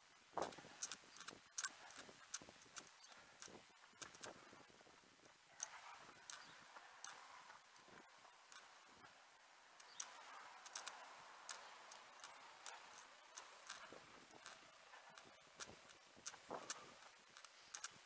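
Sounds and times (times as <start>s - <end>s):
soft steady hiss: 0.0s - 18.0s.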